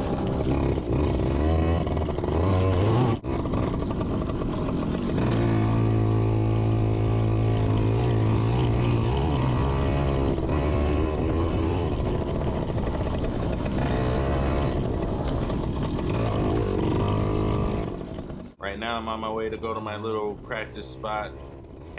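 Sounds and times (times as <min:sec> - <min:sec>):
two-stroke motorcycle engine: 0:00.0 - 0:18.6, 0:19.9 - 0:21.9.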